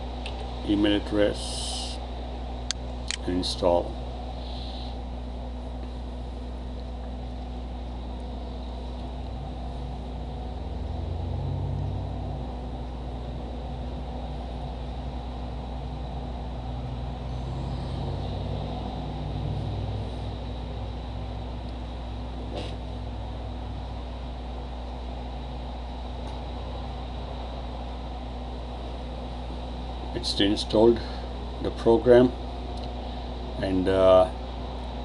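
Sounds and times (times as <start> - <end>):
low hum and rumble: 0.0 - 35.0.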